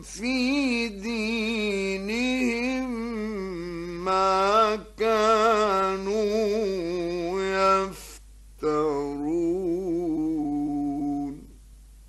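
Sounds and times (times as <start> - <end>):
man reciting in melodic style: 0.0 - 11.6.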